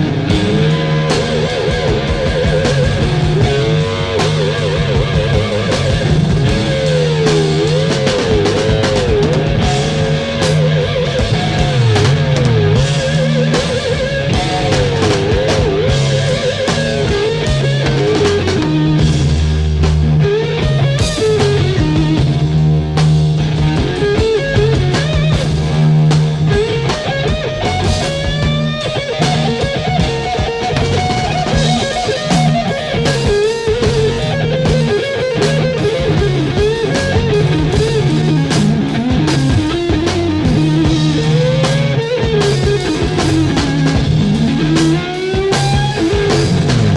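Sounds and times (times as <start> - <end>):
bass and drums: 0.0 - 46.9
lead guitar solo: 0.0 - 46.9.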